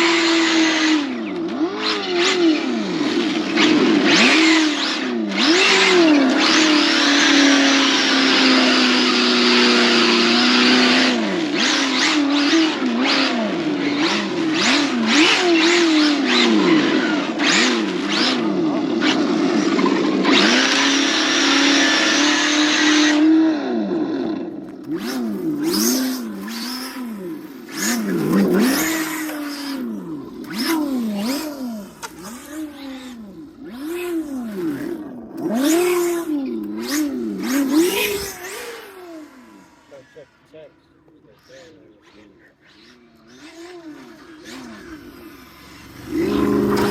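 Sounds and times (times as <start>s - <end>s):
electric motor whining: 0.0s - 46.9s.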